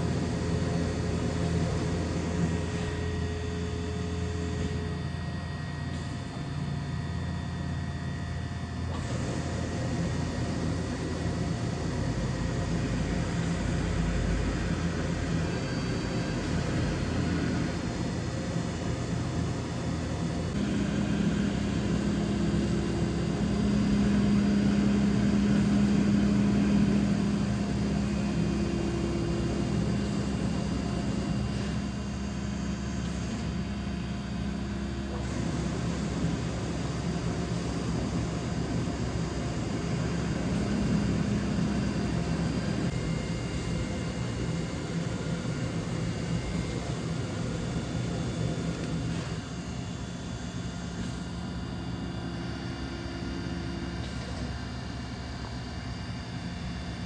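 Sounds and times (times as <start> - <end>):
machining centre hum: 0.0 - 57.0.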